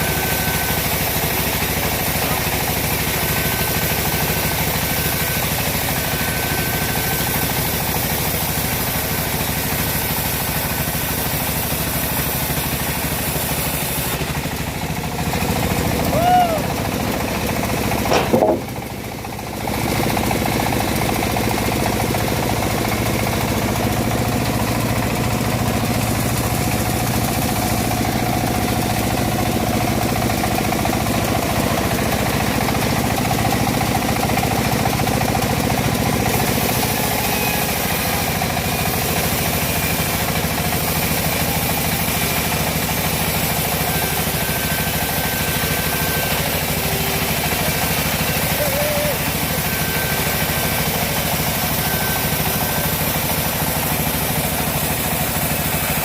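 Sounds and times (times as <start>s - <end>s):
sawmill engine running under load: 0.0s - 56.0s.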